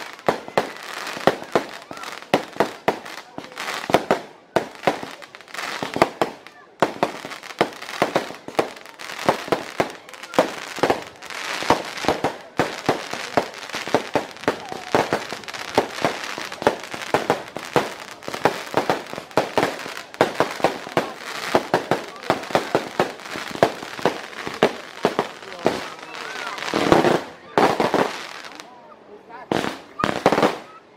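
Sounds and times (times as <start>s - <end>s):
fireworks bangs: 0.0s - 28.7s, 29.4s - 30.8s
fireworks crackling: 0.0s - 28.8s, 29.4s - 30.8s.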